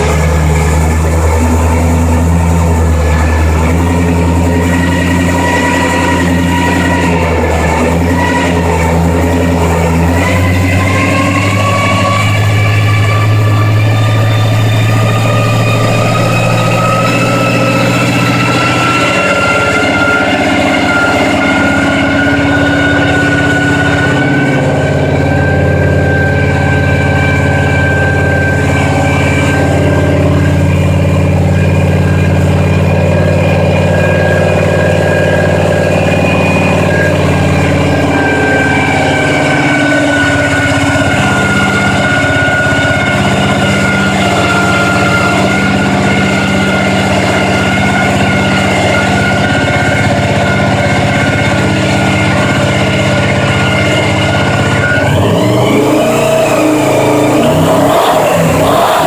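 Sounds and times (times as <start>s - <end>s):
engine idling: 0.0s - 59.0s
high supercharger whine: 0.0s - 59.0s.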